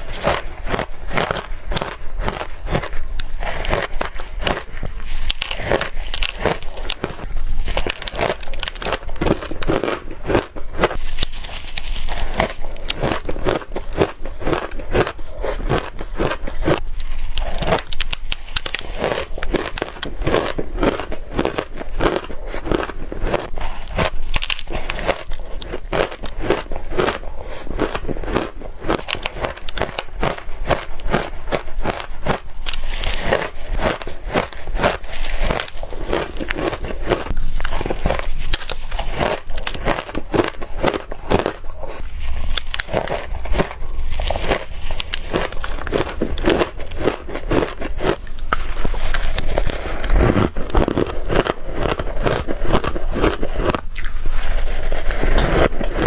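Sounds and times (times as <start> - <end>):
ice cubes crunched by teeth: 0.0 - 56.0.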